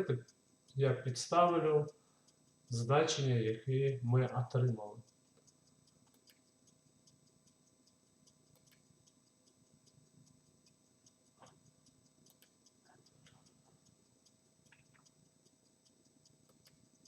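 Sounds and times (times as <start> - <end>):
faint ticking: 0.0 - 17.0.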